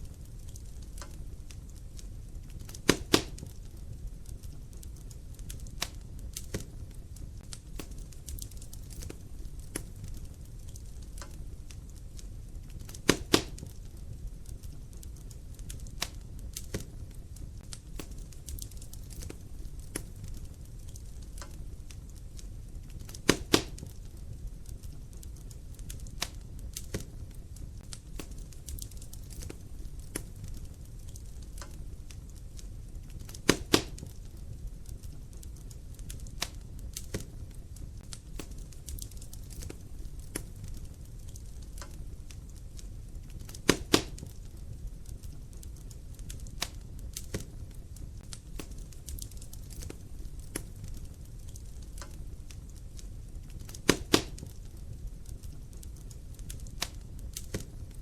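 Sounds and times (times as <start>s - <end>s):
fire crackling and popping: 0.0s - 58.0s
wood fire rumbling: 0.0s - 58.0s.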